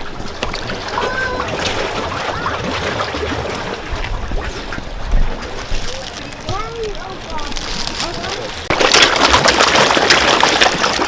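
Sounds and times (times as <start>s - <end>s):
fish splashing in water: 0.0s - 11.0s.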